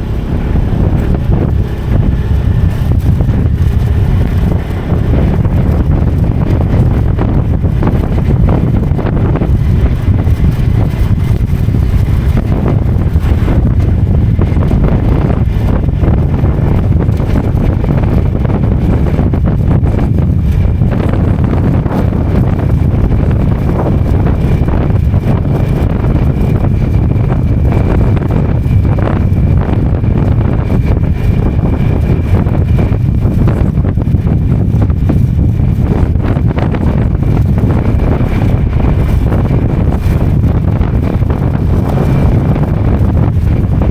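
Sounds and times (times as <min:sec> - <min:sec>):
motorcycle engine running: 0:00.0 - 0:43.9
wind buffeting on microphone: 0:00.0 - 0:43.9.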